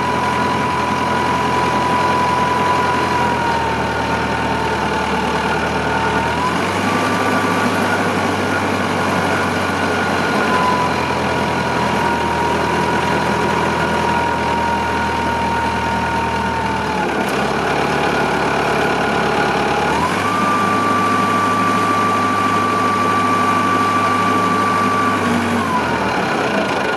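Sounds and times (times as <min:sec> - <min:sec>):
wheel loader engine whining: 0:00.0 - 0:26.9.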